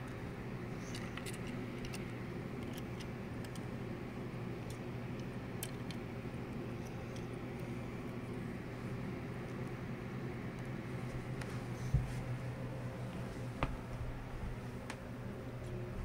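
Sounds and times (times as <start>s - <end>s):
low background hum and hiss: 0.0s - 16.0s.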